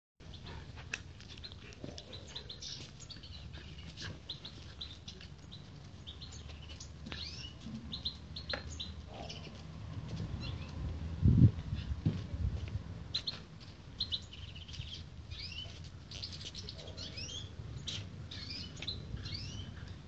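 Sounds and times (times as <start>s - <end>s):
small birds chirping: 0.2s - 9.7s, 10.4s - 10.9s, 13.1s - 20.0s.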